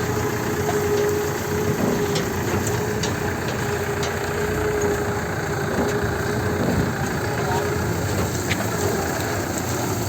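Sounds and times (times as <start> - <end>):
diesel tractor engine running: 0.0 - 10.0.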